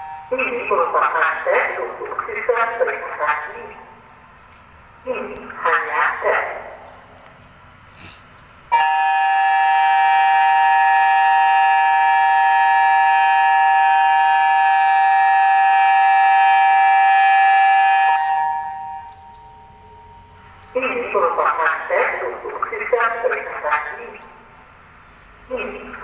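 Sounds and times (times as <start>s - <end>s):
warning siren steady chord: 0.0s - 7.8s, 8.7s - 26.0s.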